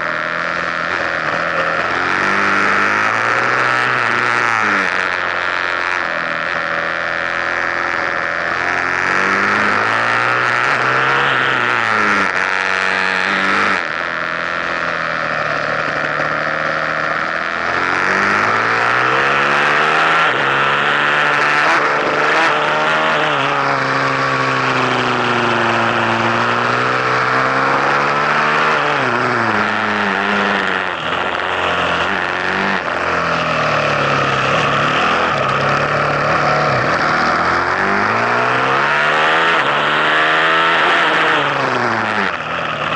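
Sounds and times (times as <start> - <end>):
abrupt gear changes: 0.0 - 42.9
motorcycle engine revving: 0.0 - 42.9.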